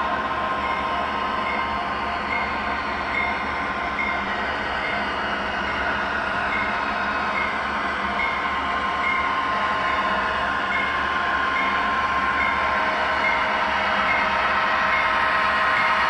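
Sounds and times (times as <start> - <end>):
model train running drone: 0.0 - 16.0.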